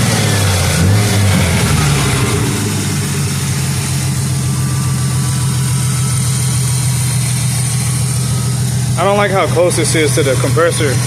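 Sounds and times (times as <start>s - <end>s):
car engine revving and idling: 0.0s - 11.0s.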